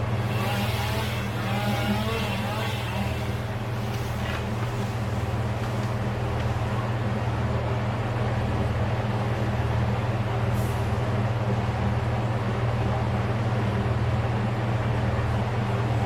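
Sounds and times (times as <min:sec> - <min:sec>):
large engine droning: 0:00.0 - 0:16.0.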